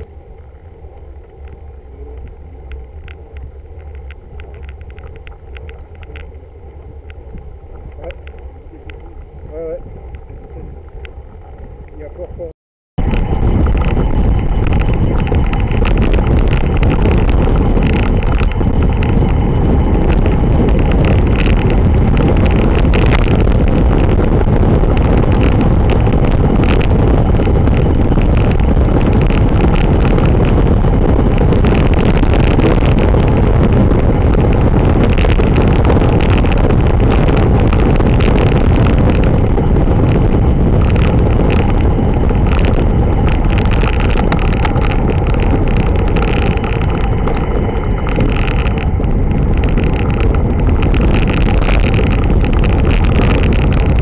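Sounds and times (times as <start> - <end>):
bike tyre noise on tarmac: 0.0 - 54.0
wind buffeting microphone: 0.0 - 54.0.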